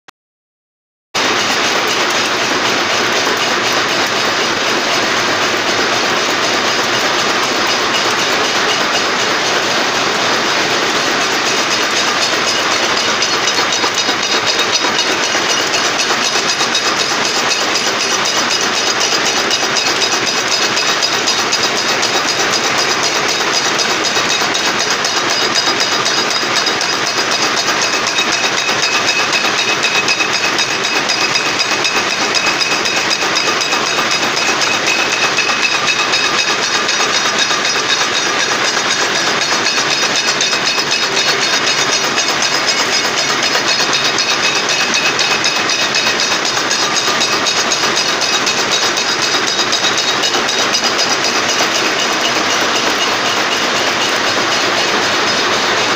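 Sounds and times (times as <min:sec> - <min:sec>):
machine rapid metallic clatter: 0:01.2 - 0:55.9.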